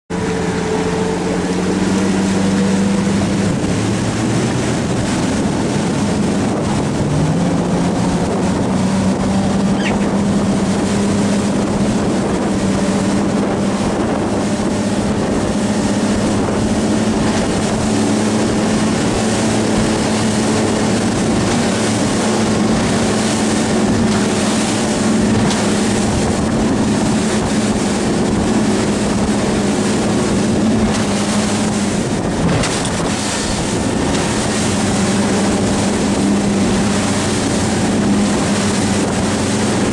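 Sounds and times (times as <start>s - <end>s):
motorboat engine running: 0.1s - 39.9s
wind and water noise: 0.1s - 39.9s.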